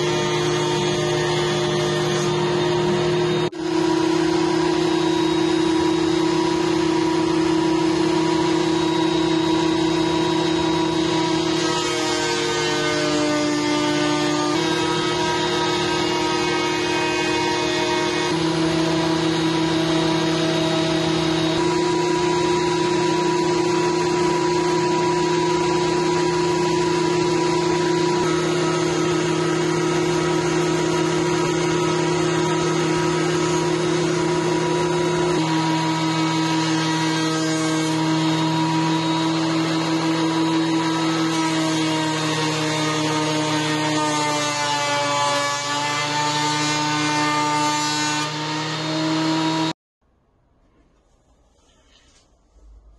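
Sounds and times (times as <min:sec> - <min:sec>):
thickness planer whining: 0:00.0 - 0:49.8.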